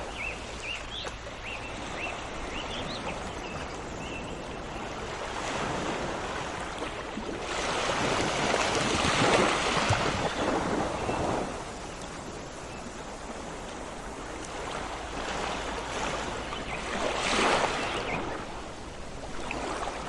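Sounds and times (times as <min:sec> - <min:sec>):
sea surf washing: 0:00.0 - 0:20.0.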